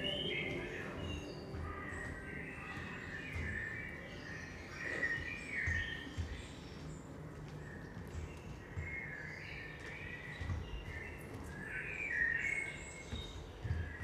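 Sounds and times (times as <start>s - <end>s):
birds chirping and calling: 0.0s - 14.0s
soft thuds of dancers moving: 0.0s - 14.0s.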